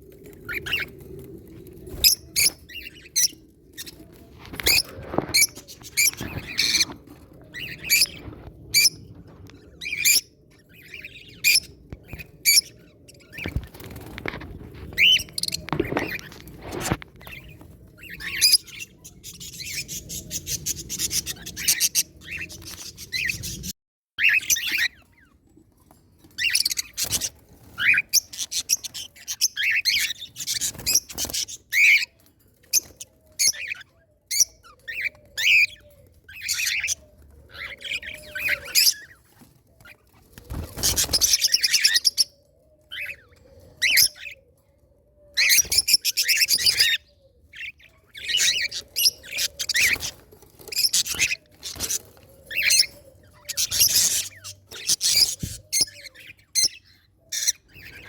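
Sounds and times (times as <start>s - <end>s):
birds chirping and chattering: 0.0s - 58.0s.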